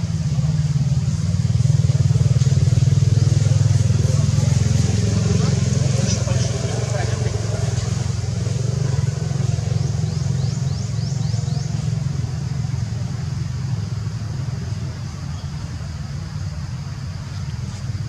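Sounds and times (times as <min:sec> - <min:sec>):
low mechanical engine drone: 0:00.0 - 0:18.0.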